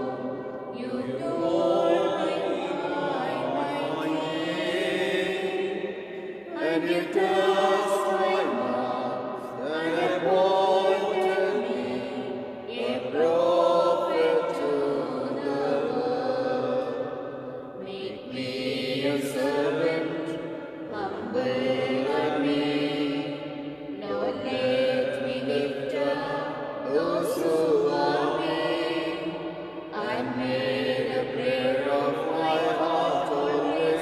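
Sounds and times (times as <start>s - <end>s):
slow hymn singing: 0.0s - 34.0s.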